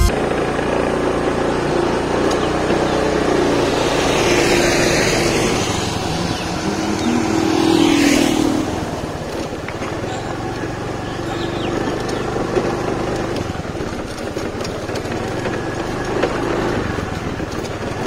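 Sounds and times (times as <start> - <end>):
vehicle engine hum: 0.0 - 18.0
wind and tyre noise: 0.1 - 18.0.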